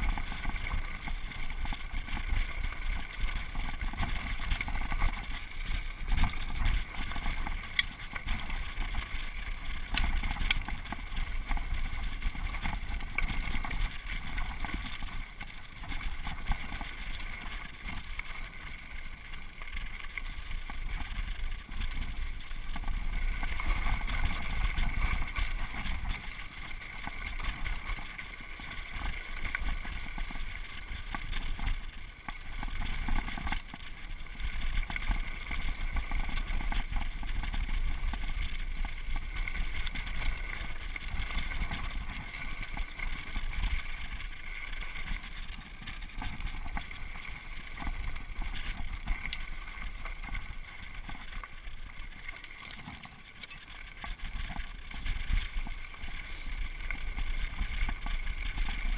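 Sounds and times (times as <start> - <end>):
bike clicks and rattles: 0.0 - 58.9.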